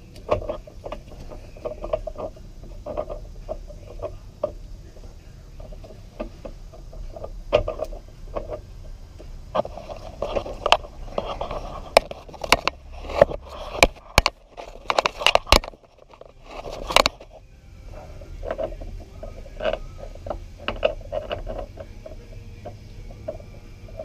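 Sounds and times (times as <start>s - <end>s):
metal parts clicking and scraping: 0.0s - 24.0s.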